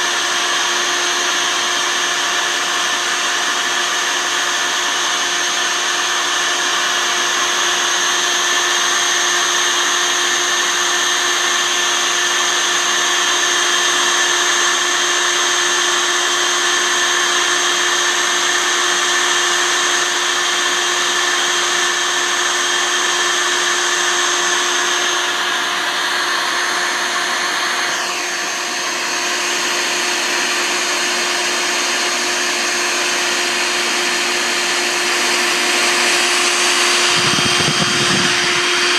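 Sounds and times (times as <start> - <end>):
vacuum motor running: 0.0 - 38.9.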